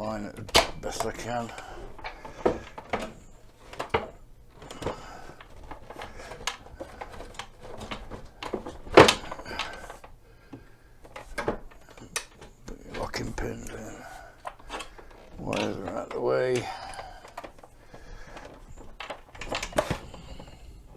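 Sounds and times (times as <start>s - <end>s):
scooter parts knocking and scraping: 0.0s - 20.9s.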